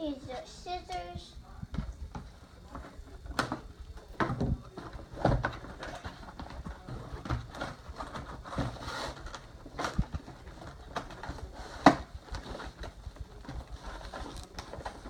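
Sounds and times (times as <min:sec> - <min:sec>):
packaging rustling: 0:02.1 - 0:15.0.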